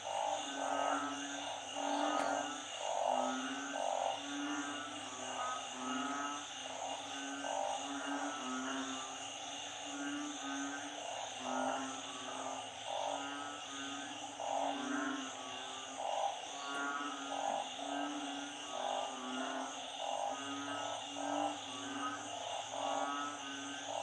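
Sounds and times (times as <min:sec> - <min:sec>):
frogs croaking in chorus: 0:00.0 - 0:24.0.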